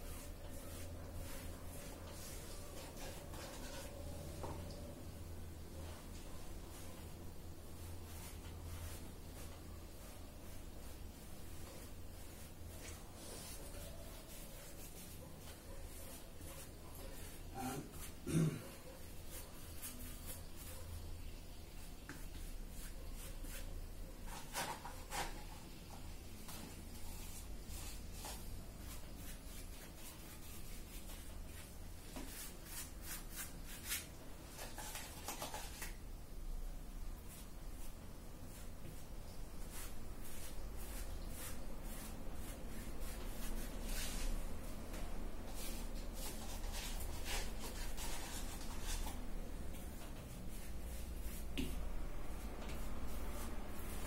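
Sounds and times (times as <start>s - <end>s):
paintbrush brushing on fabric: 0.0s - 4.2s, 7.8s - 25.6s, 26.5s - 35.9s, 37.2s - 54.0s.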